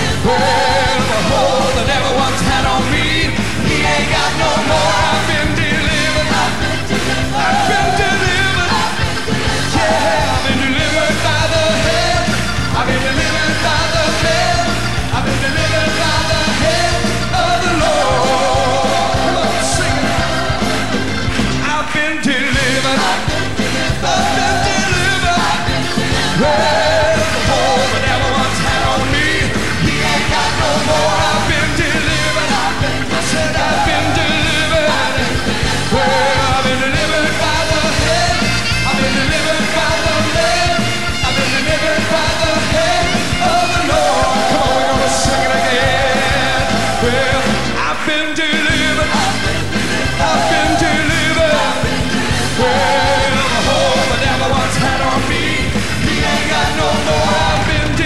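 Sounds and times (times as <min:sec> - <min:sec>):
band playing gospel song: 0:00.0 - 0:58.0
voices singing: 0:00.0 - 0:58.0.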